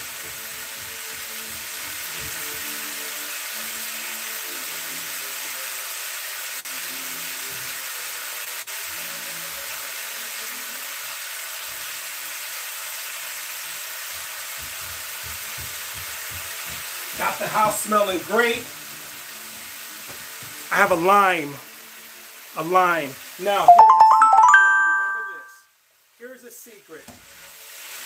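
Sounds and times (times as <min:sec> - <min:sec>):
stir fry sizzling in a wok: 0:00.0 - 0:23.7, 0:25.8 - 0:28.0.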